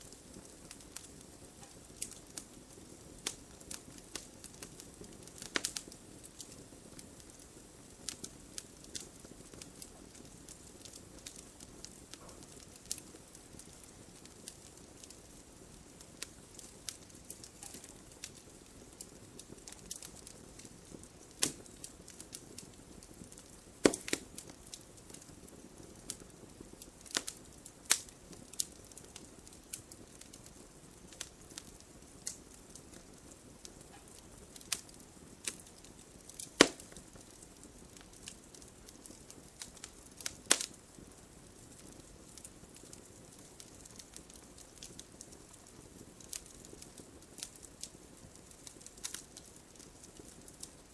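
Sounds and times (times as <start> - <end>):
campfire hiss: 0.0 - 50.9
fire popping and crackling: 0.0 - 50.9.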